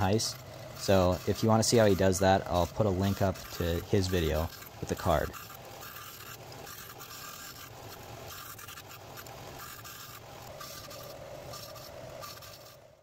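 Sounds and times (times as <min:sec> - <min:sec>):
wood rubbing on sandpaper: 0:00.0 - 0:12.8
disc sander motor hum: 0:00.0 - 0:13.0.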